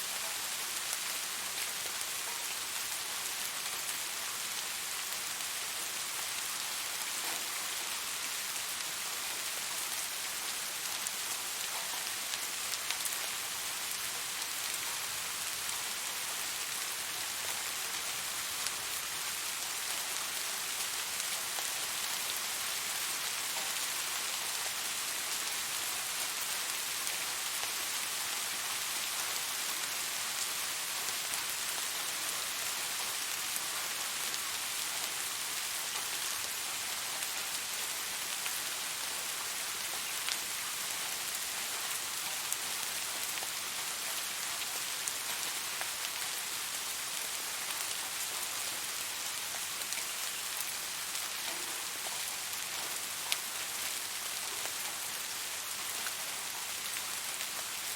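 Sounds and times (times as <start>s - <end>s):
rain hissing on surfaces: 0.0s - 57.9s.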